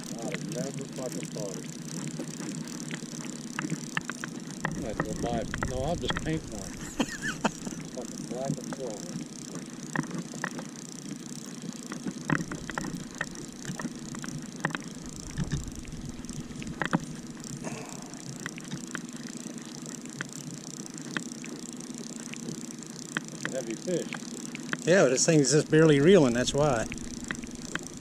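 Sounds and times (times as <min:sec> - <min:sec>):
outboard motor humming: 0:00.0 - 0:28.0
sharp clicks and knocks: 0:01.9 - 0:17.7, 0:18.3 - 0:24.9, 0:26.3 - 0:28.0.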